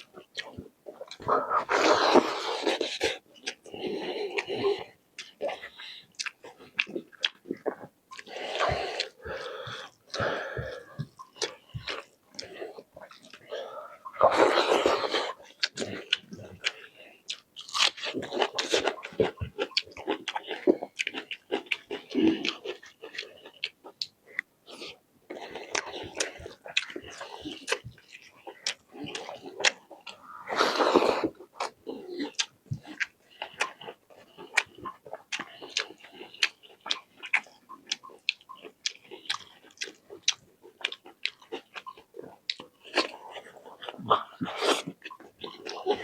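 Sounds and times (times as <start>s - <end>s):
person chewing food: 0.0s - 46.0s.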